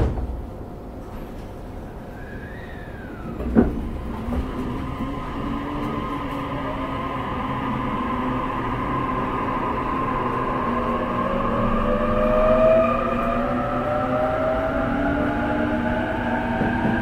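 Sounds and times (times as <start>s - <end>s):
wheels rumbling on rails: 0.4s - 17.0s
train motor whine rising in pitch: 2.1s - 17.0s.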